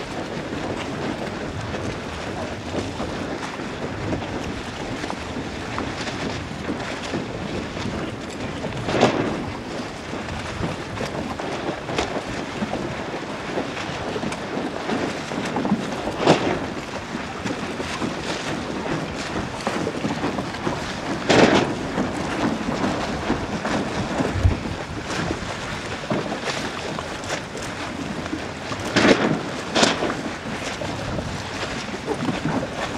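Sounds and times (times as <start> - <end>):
wind rushing across microphone: 0.0 - 32.9.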